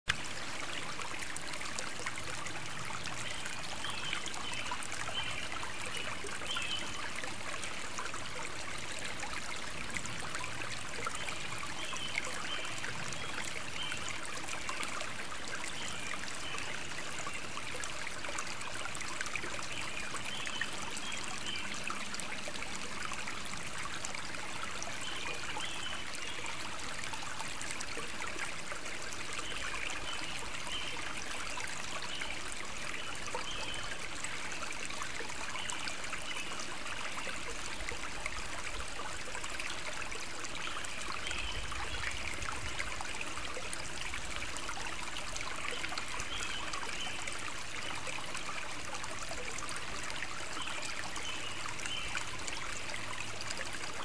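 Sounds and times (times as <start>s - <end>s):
water trickling in a channel: 0.1s - 54.0s.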